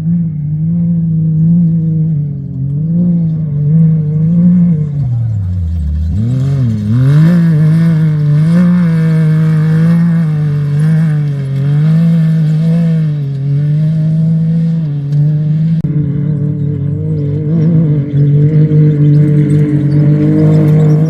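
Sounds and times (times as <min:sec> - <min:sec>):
race vehicle engine revving: 0:00.0 - 0:21.0.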